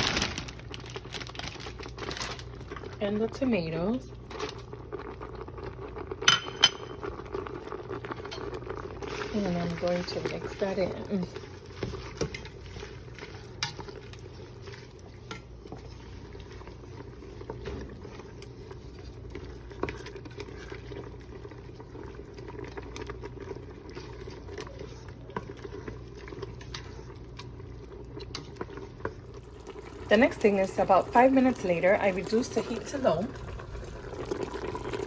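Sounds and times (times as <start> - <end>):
sauce bubbling in a pot: 0.0 - 35.0.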